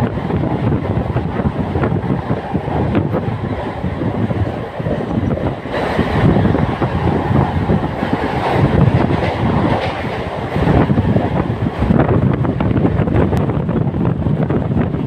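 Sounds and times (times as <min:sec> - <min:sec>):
train rumbling at speed: 0:00.0 - 0:15.0
train wheels clattering on rails: 0:00.0 - 0:15.0.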